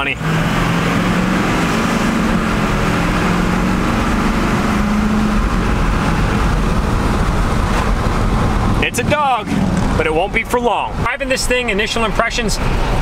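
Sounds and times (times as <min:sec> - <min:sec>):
diesel engine under full throttle: 0:00.0 - 0:13.0.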